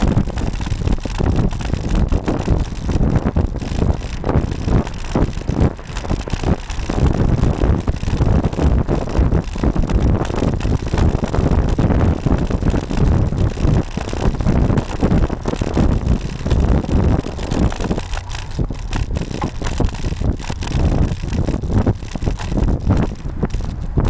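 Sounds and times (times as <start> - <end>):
bike riding noise: 0.0 - 24.0
wind buffeting microphone: 0.0 - 24.0.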